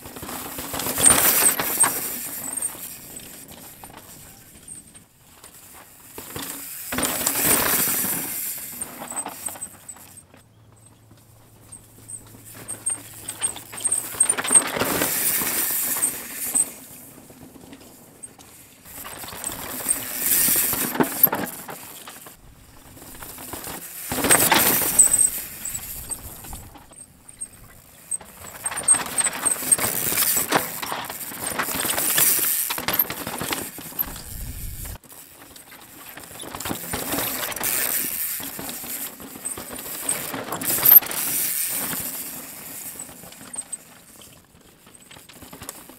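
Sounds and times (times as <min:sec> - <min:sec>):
bike tyres skidding through dirt: 0:00.0 - 0:45.9.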